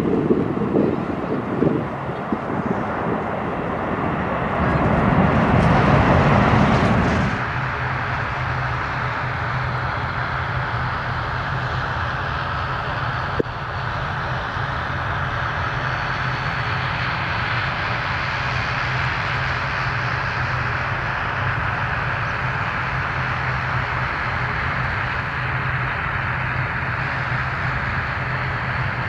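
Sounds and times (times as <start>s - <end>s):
aircraft engines running: 0.0s - 29.0s.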